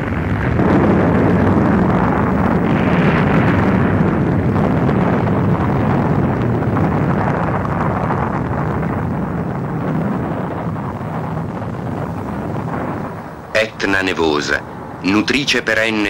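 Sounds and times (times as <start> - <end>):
volcano crater deep rumble: 0.0 - 16.0.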